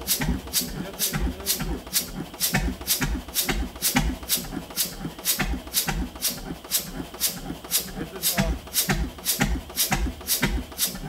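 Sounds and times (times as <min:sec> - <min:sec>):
stationary engine running slowly: 0:00.0 - 0:11.0.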